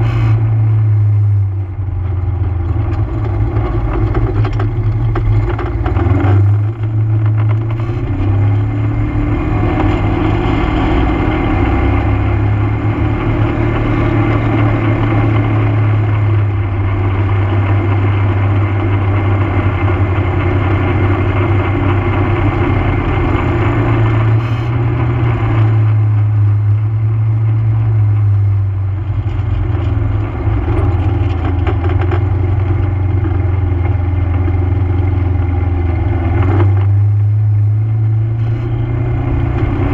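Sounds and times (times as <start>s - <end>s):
atv engine: 0.0s - 39.9s.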